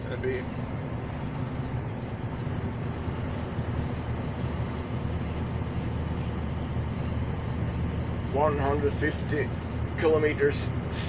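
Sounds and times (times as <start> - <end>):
truck engine and road noise drone: 0.0 - 11.0.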